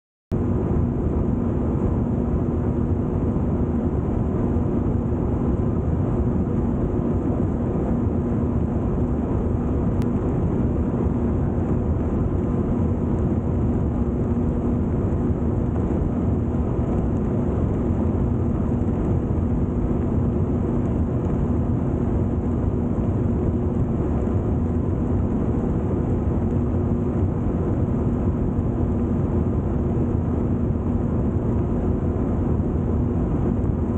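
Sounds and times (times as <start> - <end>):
watercraft engine droning: 0.4 - 33.9
wind: 0.4 - 33.9.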